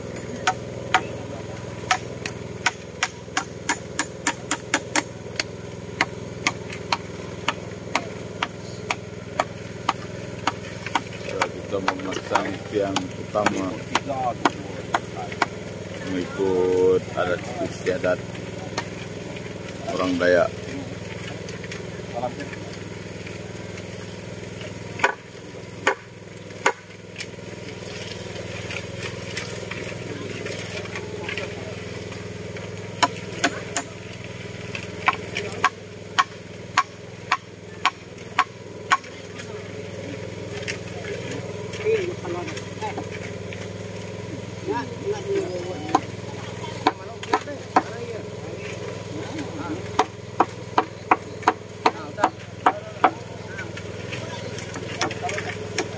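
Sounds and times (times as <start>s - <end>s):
engine idling hum: 0.0s - 55.9s.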